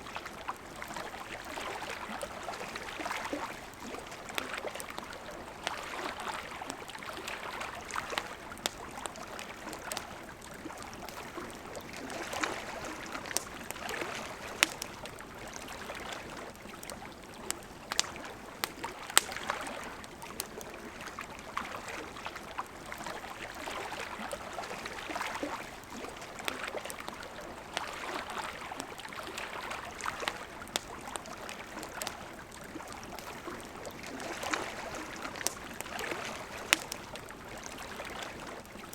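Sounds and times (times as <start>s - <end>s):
campfire crackling and popping: 0.2s - 38.9s.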